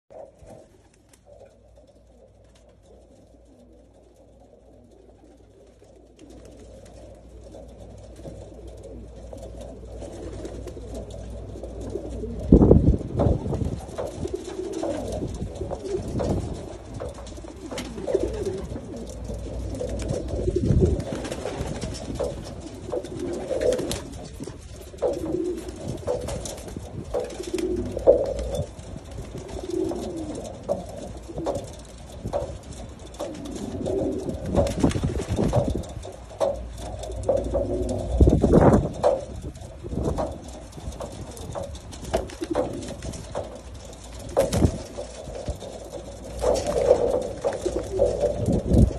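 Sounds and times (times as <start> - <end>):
pigeons cooing: 0.1 - 48.9.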